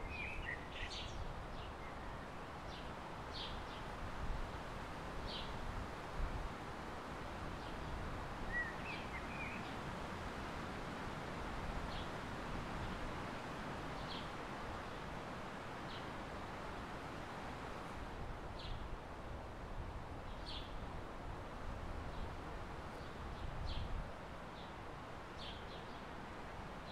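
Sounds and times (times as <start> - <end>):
outdoor background noise: 0.0 - 26.9.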